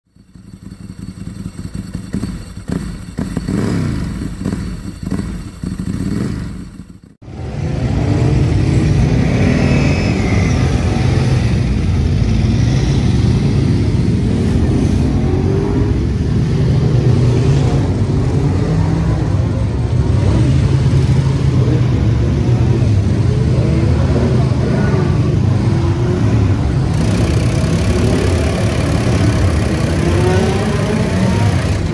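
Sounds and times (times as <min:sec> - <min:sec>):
motorcycle engine running steadily: 0:00.0 - 0:08.8, 0:10.0 - 0:31.9
motorcycle engines revving: 0:00.1 - 0:31.9.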